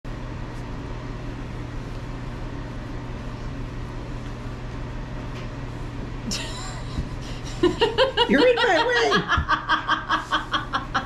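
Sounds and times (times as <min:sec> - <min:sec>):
machine hum with hiss: 0:00.1 - 0:11.0.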